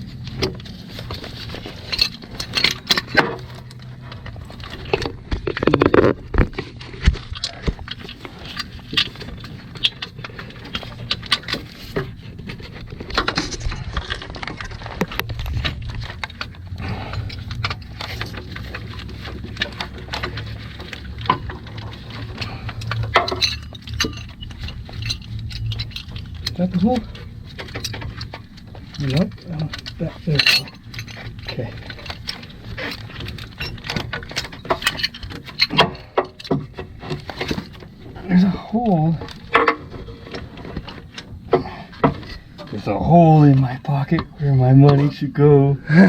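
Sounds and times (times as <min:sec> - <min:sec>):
metal parts clicking and clinking: 0:00.0 - 0:45.4
steady low hum: 0:00.0 - 0:46.0.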